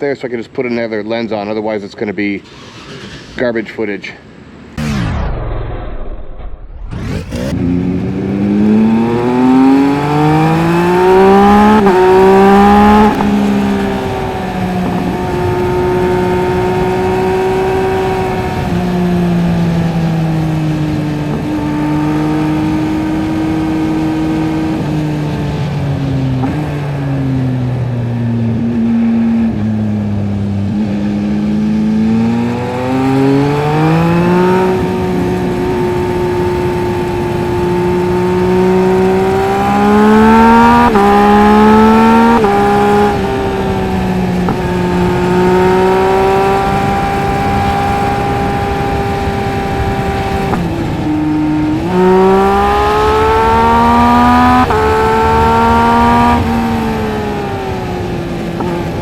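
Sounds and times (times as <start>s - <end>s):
motorcycle engine revving through gears: 6.7s - 59.0s.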